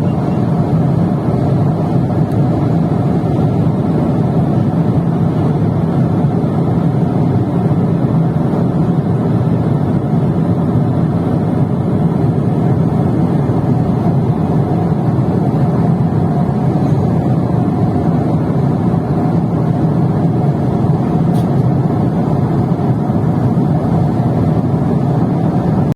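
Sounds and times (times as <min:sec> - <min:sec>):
jet airliner cabin noise: 0:00.0 - 0:25.9.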